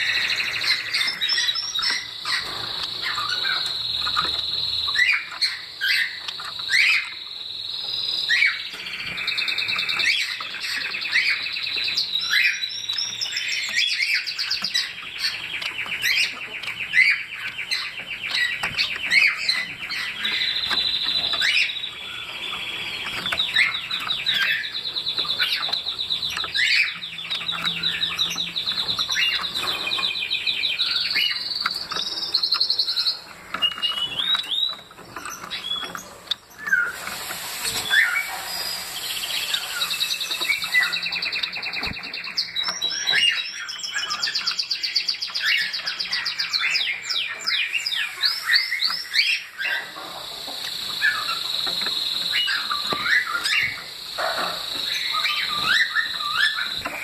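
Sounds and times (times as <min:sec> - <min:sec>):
finch singing buzzy trills: 0:00.0 - 0:57.0.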